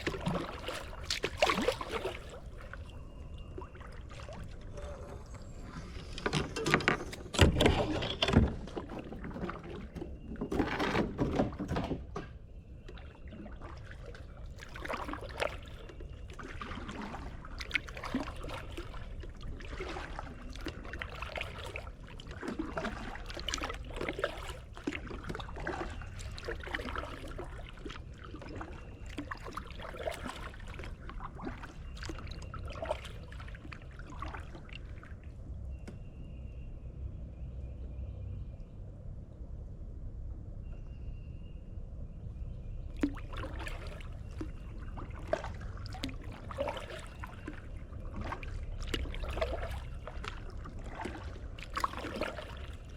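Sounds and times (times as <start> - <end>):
kayak paddle splashing: 0.0 - 12.2, 12.9 - 35.8, 42.9 - 52.9.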